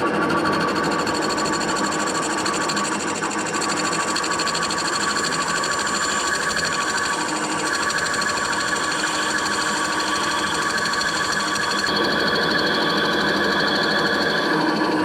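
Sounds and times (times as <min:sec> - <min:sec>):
lathe whirring: 0:00.1 - 0:15.0.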